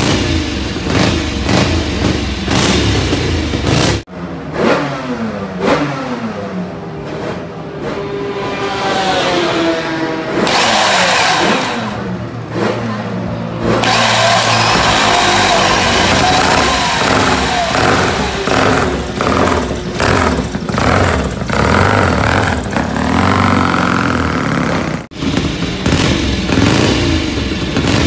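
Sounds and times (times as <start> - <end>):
racing motorcycle engine revving: 0.0 - 28.0
single-cylinder engine revving: 0.0 - 28.0.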